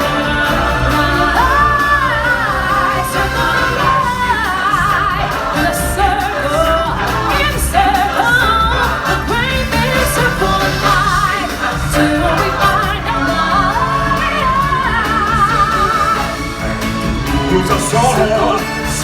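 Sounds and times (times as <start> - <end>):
loud band with bass beat: 0.0 - 19.0
singers with choir backing: 0.0 - 19.0.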